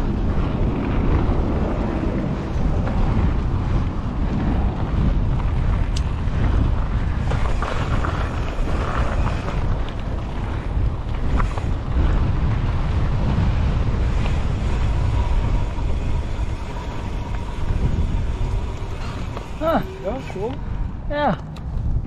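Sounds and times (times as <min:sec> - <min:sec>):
bike rolling rumble: 0:00.0 - 0:22.0
wind on microphone: 0:00.0 - 0:22.0.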